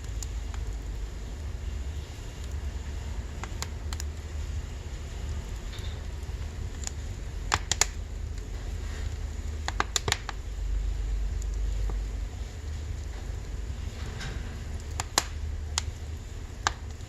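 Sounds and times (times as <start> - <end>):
firewood crackling and popping: 0.0 - 17.0
low steady stove rumble: 0.0 - 17.0.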